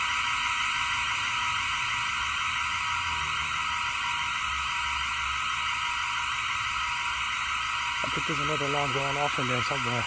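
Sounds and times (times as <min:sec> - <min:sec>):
intruder alarm blaring: 0:00.0 - 0:10.0.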